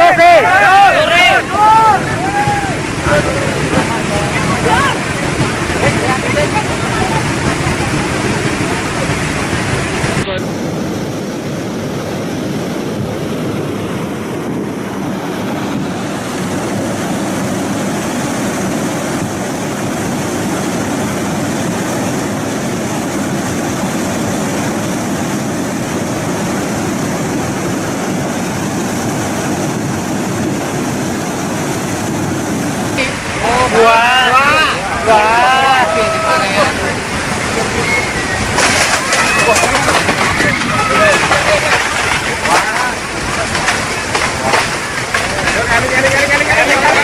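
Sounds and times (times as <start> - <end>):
torrent rushing: 0.0 - 47.0.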